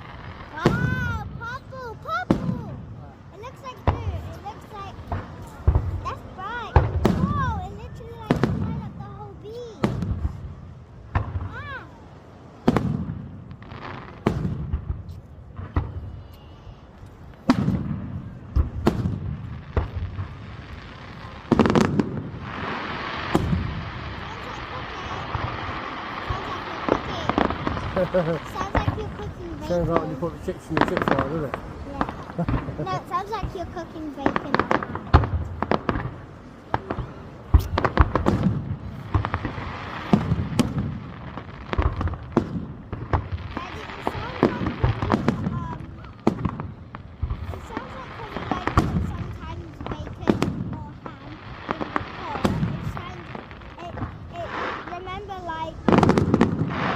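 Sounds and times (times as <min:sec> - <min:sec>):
fireworks bangs with echo: 0:00.0 - 0:56.9.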